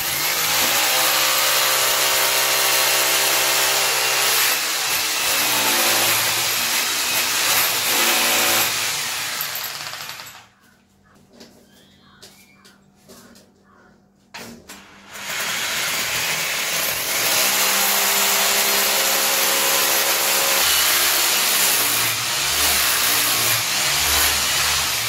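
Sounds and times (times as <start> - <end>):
electric drill boring into wall: 0.0 - 10.4, 14.7 - 25.0.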